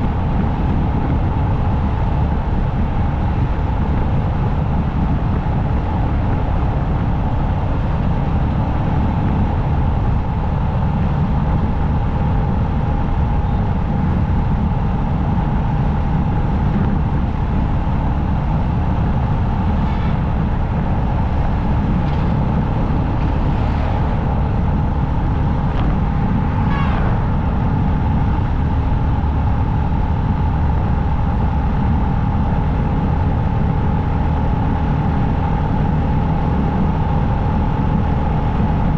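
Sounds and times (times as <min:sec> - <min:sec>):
motorcycle engine drone: 0:00.0 - 0:38.9
wind and road noise: 0:00.0 - 0:38.9.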